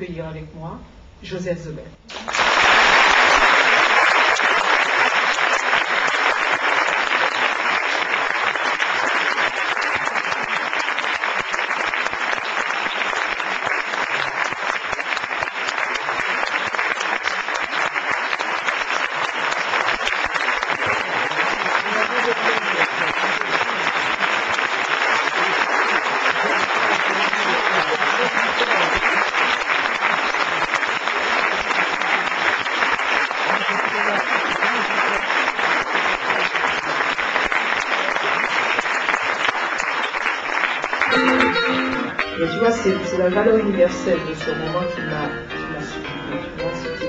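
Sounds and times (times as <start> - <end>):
large audience applause: 2.1 - 43.1.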